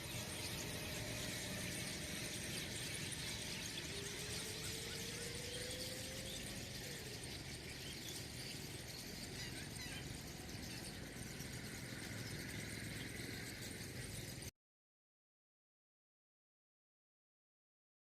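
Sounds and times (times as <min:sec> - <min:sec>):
faint high bird chirps: 0:00.0 - 0:14.5
faint rising whine: 0:00.0 - 0:14.5
outdoor morning ambience: 0:00.0 - 0:14.5.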